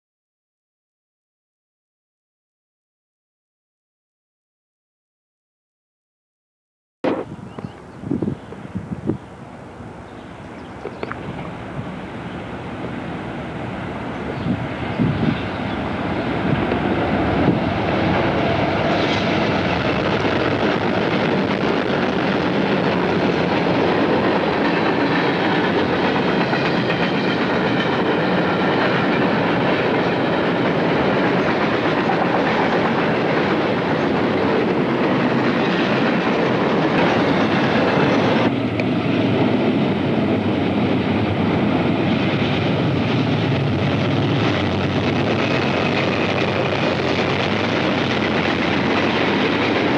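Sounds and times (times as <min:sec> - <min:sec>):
train wheels rushing on rails: 0:07.1 - 0:49.9.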